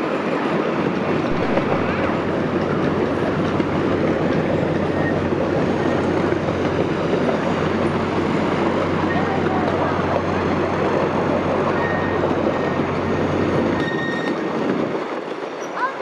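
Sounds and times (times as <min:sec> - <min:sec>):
small locomotive humming: 0:00.0 - 0:16.0
train cars rattling on rails: 0:00.0 - 0:16.0.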